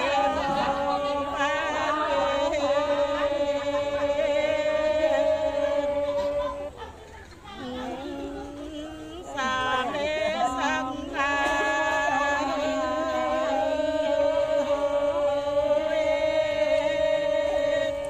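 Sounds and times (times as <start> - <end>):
voices chanting long held notes: 0.0 - 18.0.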